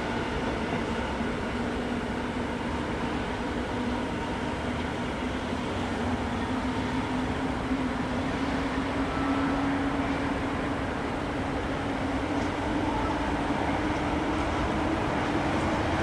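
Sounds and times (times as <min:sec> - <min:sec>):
work train engine hum: 0:00.0 - 0:16.0.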